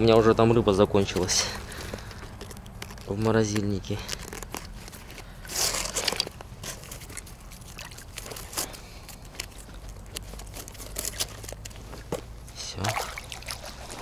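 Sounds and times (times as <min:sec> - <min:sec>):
handling clicks and crunches: 0:00.0 - 0:12.6
rustling: 0:01.0 - 0:12.7.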